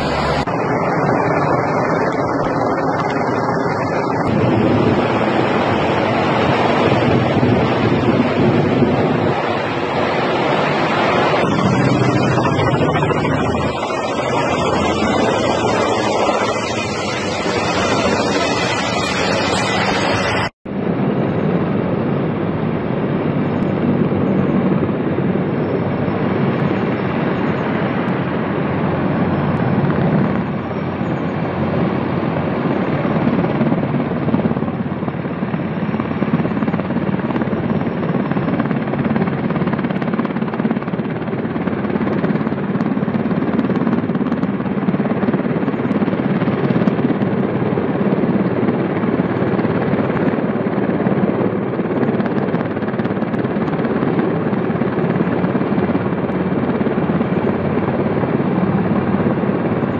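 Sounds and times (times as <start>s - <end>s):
helicopter rotor and engine drone: 0.0s - 59.9s.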